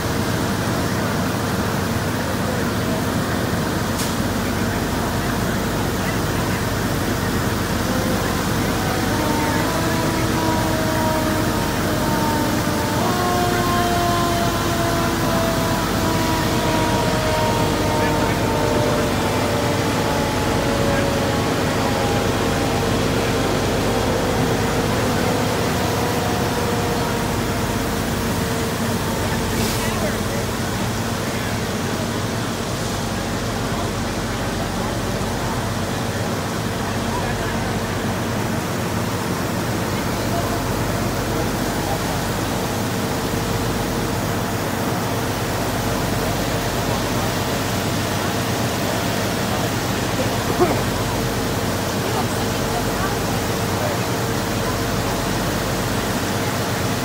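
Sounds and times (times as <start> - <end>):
fire truck engines running: 0.0 - 57.0
water spraying from fire hoses: 0.0 - 57.0.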